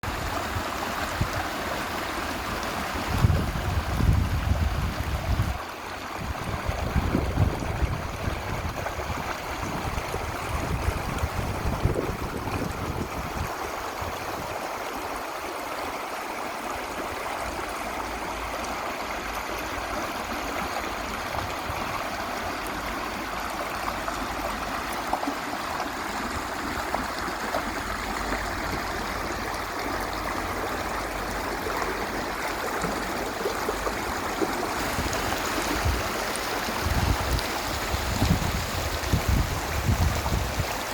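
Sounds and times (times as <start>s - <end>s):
creek water rushing and gurgling: 0.0s - 40.9s.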